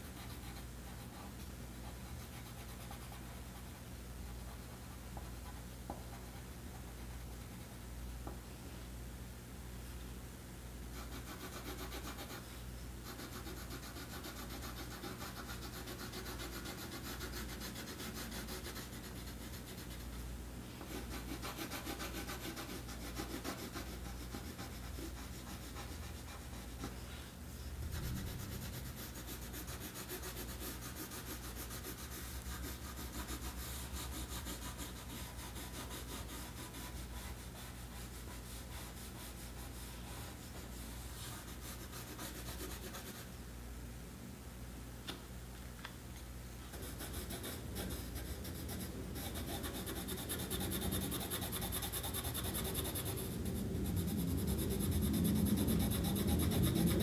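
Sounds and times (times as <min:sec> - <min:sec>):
pencil scratching on paper: 0:00.0 - 0:07.4, 0:10.9 - 0:12.4, 0:13.0 - 0:20.2, 0:20.8 - 0:27.2, 0:27.8 - 0:43.3, 0:46.7 - 0:57.0
low steady hum: 0:00.0 - 0:57.0.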